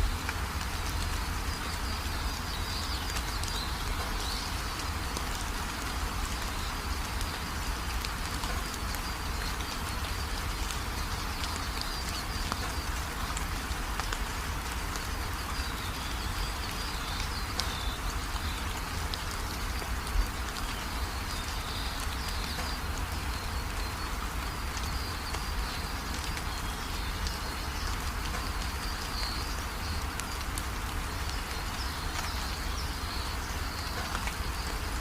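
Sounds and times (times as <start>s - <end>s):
steady rainfall: 0.0s - 35.0s.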